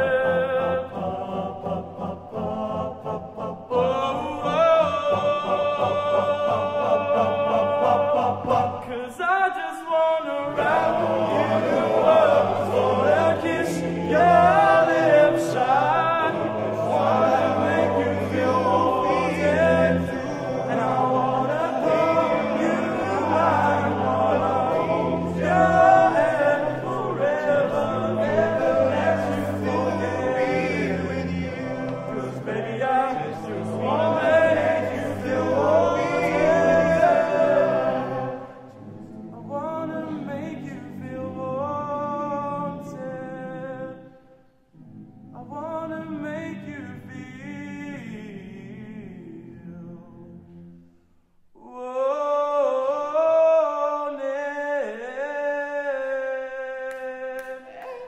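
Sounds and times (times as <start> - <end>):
male ensemble singing in harmony: 0.0 - 44.3, 45.3 - 50.8, 51.6 - 58.0.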